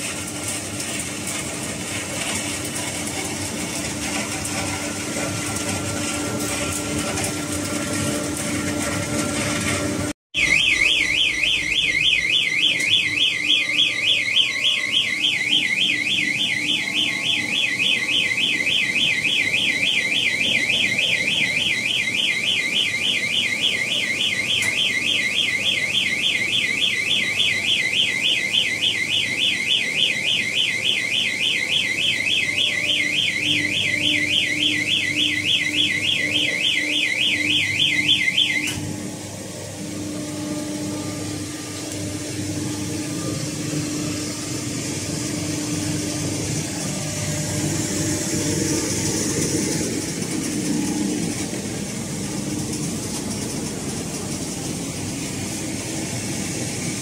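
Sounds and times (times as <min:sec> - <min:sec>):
electronic alarm warbling: 0:00.0 - 0:53.6.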